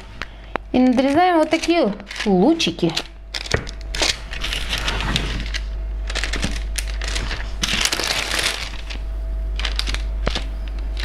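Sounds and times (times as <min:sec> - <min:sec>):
paper crinkling rustle: 0:00.2 - 0:11.0.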